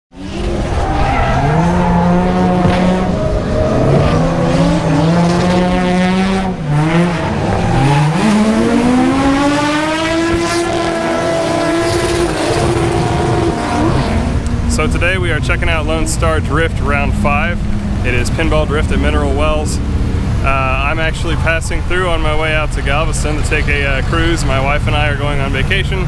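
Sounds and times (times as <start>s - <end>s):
car engines revving high: 0.1s - 26.0s.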